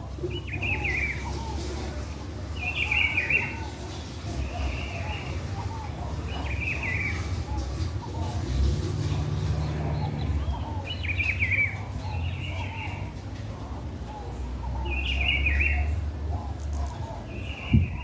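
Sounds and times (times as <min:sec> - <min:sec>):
songbirds warbling: 0:00.0 - 0:18.0.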